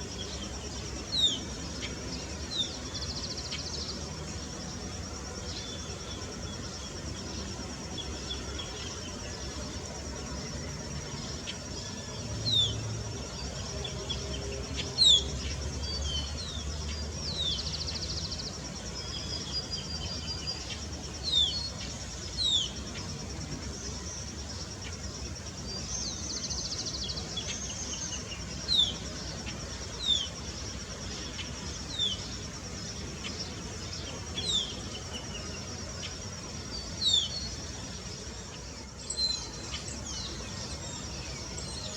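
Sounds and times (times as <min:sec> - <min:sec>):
insect trill: 0:00.0 - 0:41.9.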